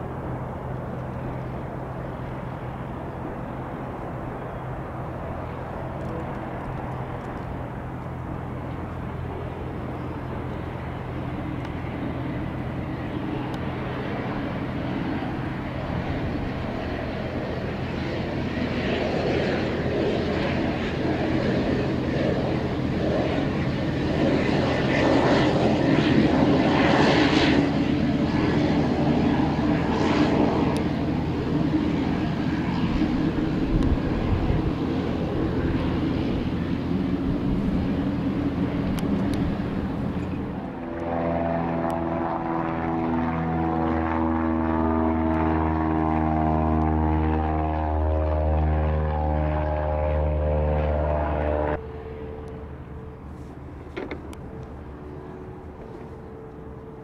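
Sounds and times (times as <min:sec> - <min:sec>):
turboprop engine running: 0:00.0 - 0:57.0.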